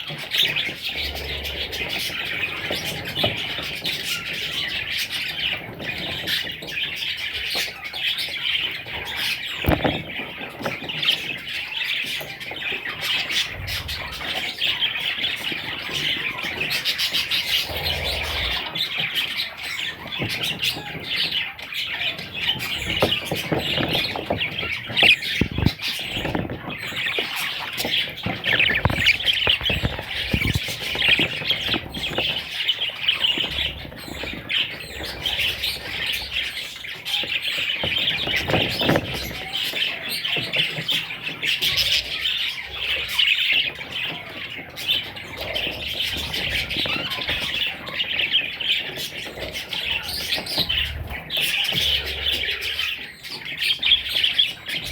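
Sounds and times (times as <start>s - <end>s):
budgerigars chirping: 0.0s - 54.9s.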